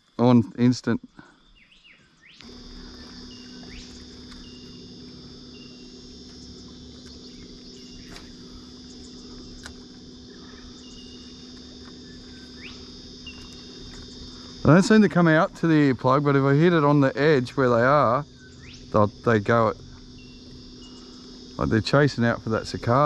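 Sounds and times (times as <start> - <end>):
cicadas droning: 0.0 - 23.0
low steady hum: 0.0 - 23.0
bird notes: 1.5 - 23.0.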